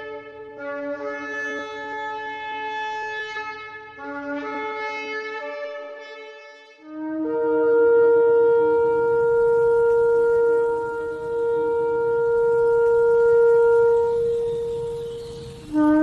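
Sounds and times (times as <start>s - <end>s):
shofar long held note: 0.0s - 16.0s.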